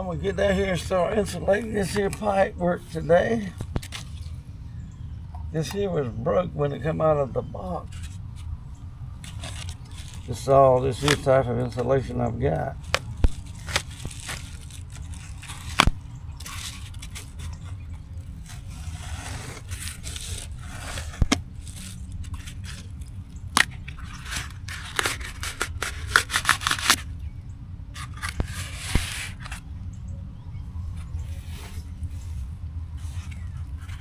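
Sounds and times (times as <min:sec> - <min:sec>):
insulation crinkling and tearing: 0:00.0 - 0:29.9, 0:30.7 - 0:34.0
steady low rumble: 0:00.0 - 0:34.0.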